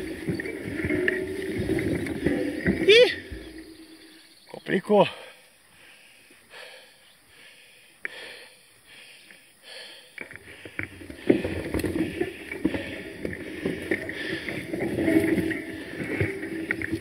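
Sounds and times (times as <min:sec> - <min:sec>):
grass rustling against bike: 0:00.0 - 0:17.0.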